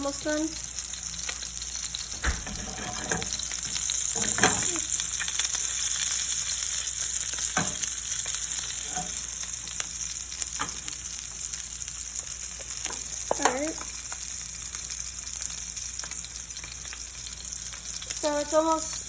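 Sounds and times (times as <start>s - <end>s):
steak sizzling in a pan: 0.0s - 19.0s.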